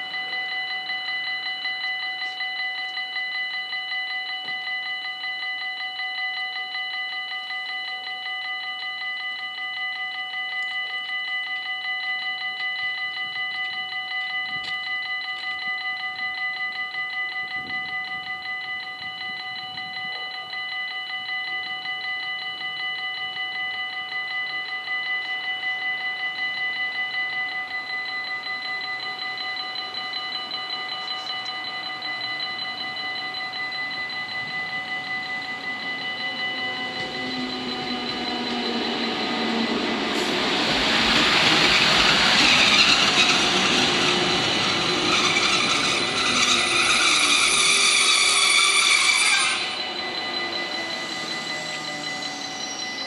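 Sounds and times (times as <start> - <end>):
level crossing warning bells: 0.0 - 53.0.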